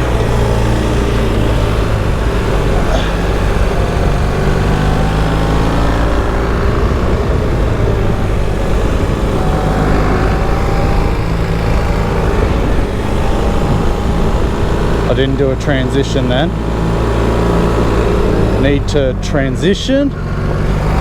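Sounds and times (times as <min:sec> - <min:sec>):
wind noise: 0:00.0 - 0:19.1
motorcycle engine revving: 0:00.0 - 0:21.0.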